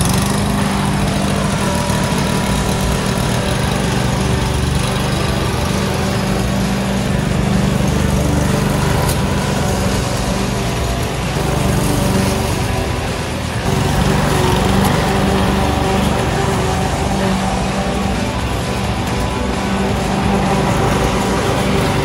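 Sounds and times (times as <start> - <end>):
lawn mower cutting grass: 0.0 - 22.0.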